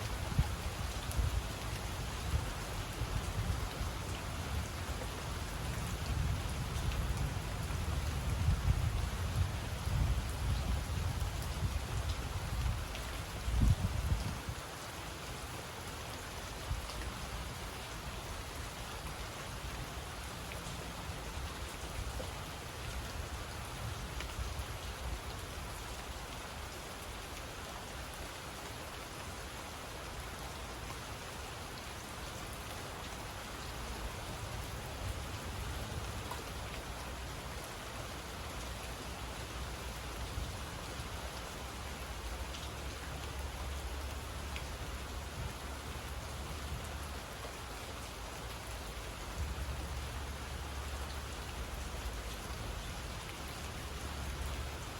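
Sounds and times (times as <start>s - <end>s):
steady rain on tree leaves: 0.0s - 54.9s.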